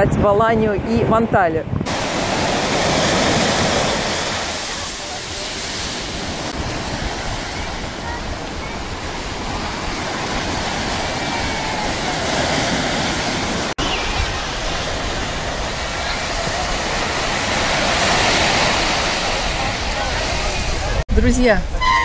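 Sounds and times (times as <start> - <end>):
surf waves washing on beach: 0.0 - 21.0.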